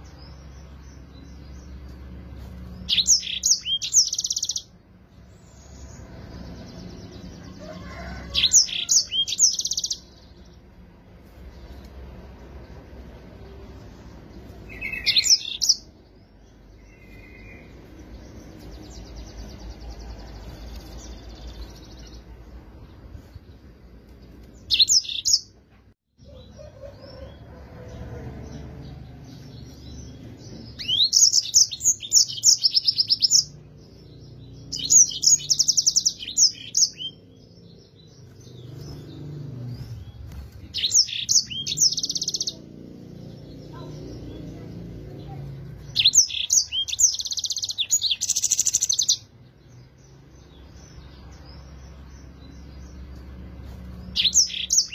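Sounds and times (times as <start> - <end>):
canary trilling song: 0.0 - 54.9.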